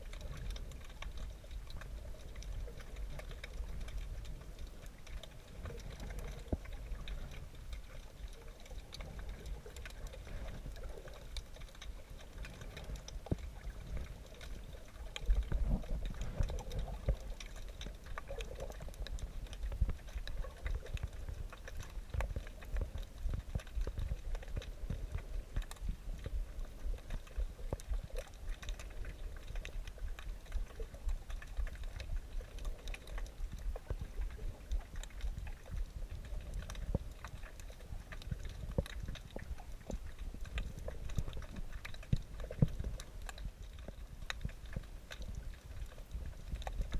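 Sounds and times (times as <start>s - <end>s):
low underwater rumble: 0.0s - 46.9s
small sharp clicks and crackles: 0.0s - 46.9s.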